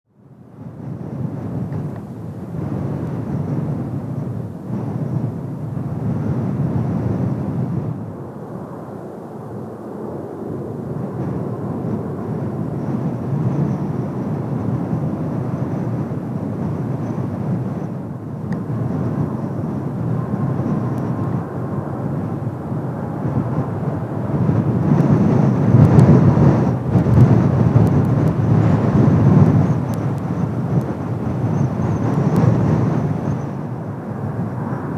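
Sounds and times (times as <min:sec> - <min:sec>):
distant jet engines rumbling: 0:00.2 - 0:34.9
wind buffeting microphone: 0:00.2 - 0:34.9.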